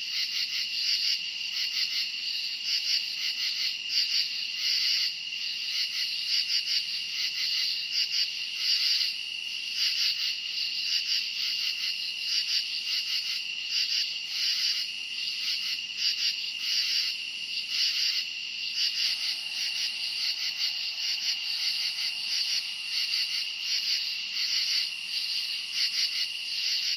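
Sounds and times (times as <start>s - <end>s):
crickets chirping: 0.0s - 26.9s.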